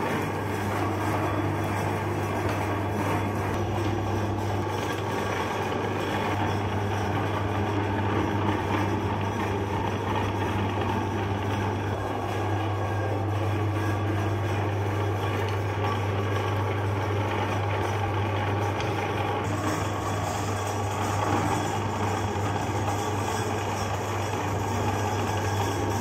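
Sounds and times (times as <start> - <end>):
electric meat grinder humming: 0.0 - 26.0.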